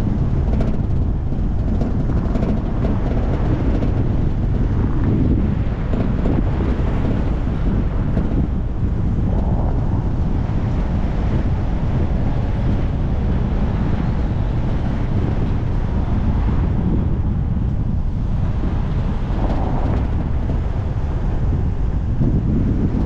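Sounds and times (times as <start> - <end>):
car road noise: 0.0 - 23.0
wind rumble on microphone: 0.0 - 23.0.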